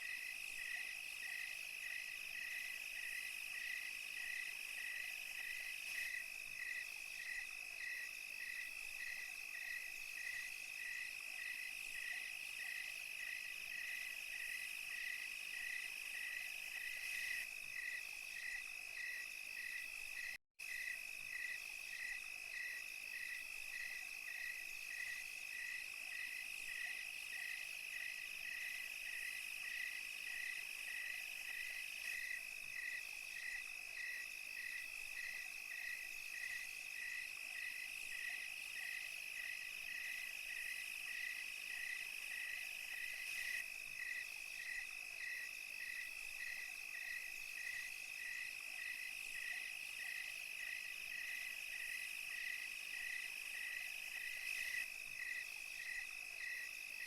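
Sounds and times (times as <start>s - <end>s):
crickets trilling: 0.0s - 57.0s
insect chirping: 0.0s - 57.0s.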